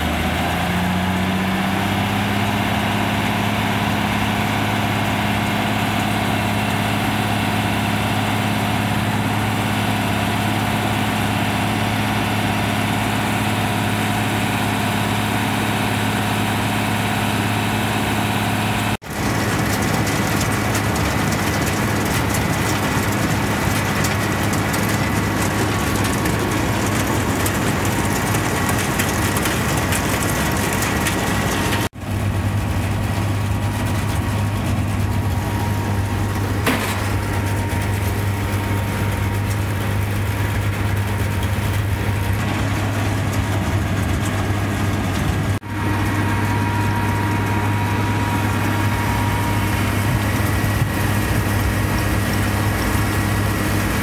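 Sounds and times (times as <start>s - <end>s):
tractor engines and machinery running: 0.0s - 54.0s
machinery whines: 2.1s - 54.0s.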